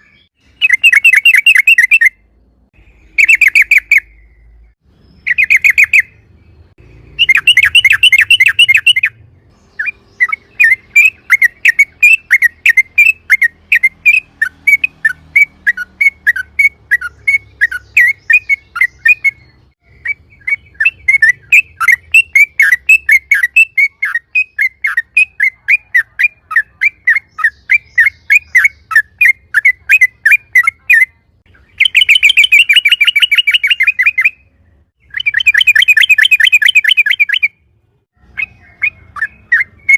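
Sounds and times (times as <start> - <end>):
bird chirping sharp notes: 0.0 - 39.9
bulbul singing rattling trills: 2.8 - 37.6.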